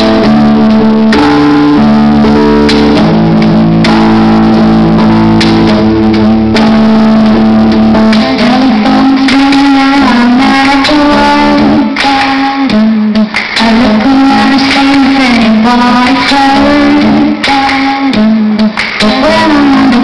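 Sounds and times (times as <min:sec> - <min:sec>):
live music accompaniment: 0:00.0 - 0:20.0
singer holding long notes: 0:00.0 - 0:20.0.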